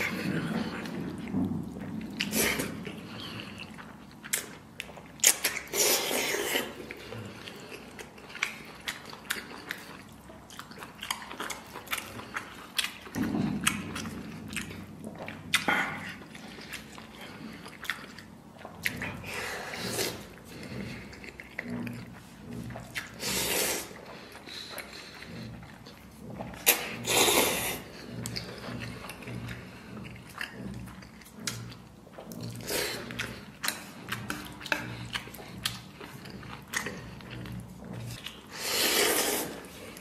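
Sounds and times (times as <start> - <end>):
noodles slurped: 0.0 - 40.0
wet chewing and lip smacks: 0.0 - 40.0.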